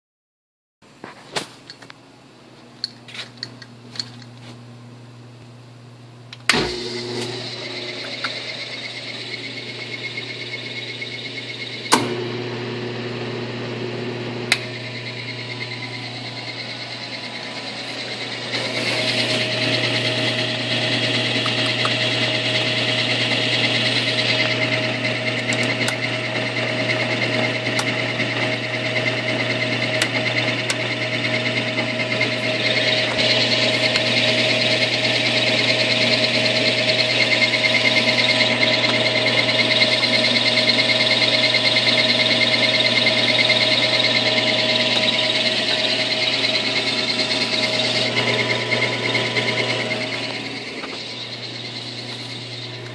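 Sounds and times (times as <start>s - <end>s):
steady whine: 1.1s - 52.9s
motor humming: 6.2s - 52.9s.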